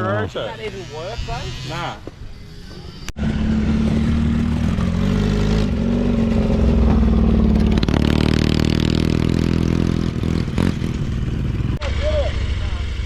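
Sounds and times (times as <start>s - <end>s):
motorcycle engine high revs: 0.6s - 13.0s.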